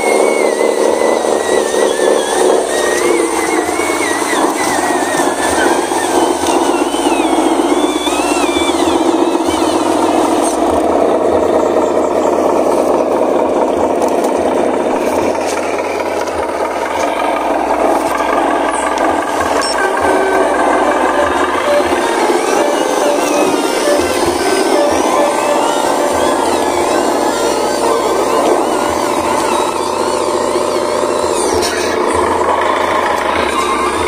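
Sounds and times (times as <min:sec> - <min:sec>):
toy truck motor whirring and rattling: 0:00.0 - 0:34.0.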